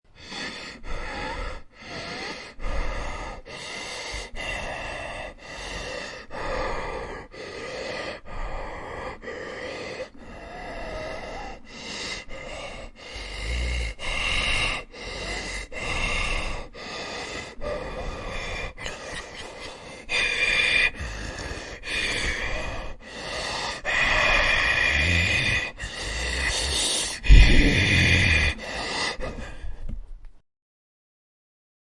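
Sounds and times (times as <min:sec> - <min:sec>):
harsh gasping breaths: 0:00.1 - 0:30.2.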